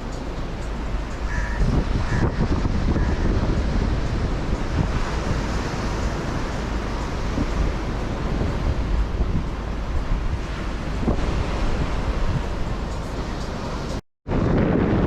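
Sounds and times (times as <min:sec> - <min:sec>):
sea waves breaking: 0:00.0 - 0:15.0
wind buffeting microphone: 0:00.0 - 0:15.0.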